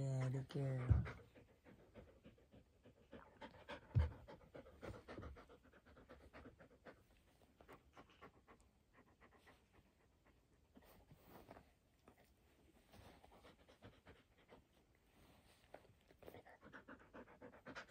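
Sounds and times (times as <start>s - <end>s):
puppy panting and snuffling: 0.0s - 17.9s.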